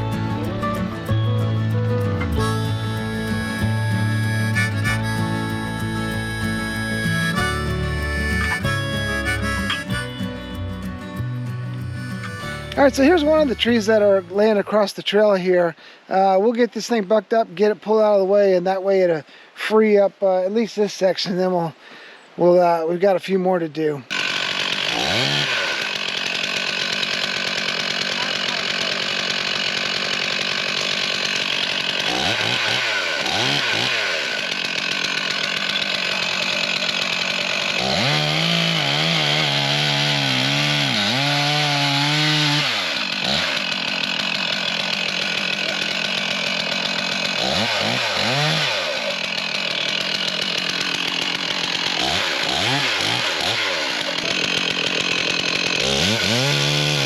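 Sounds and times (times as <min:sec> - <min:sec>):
chainsaw cutting wood: 0:00.0 - 0:14.6, 0:24.1 - 0:57.0.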